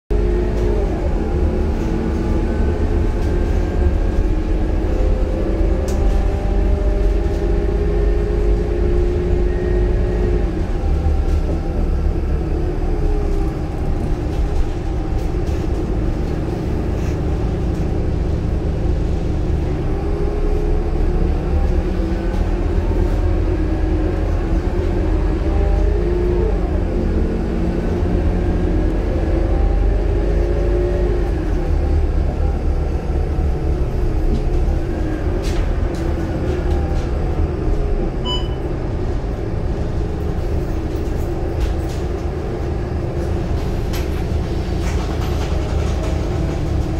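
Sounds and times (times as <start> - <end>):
bus diesel engine rumble: 0.1 - 46.9.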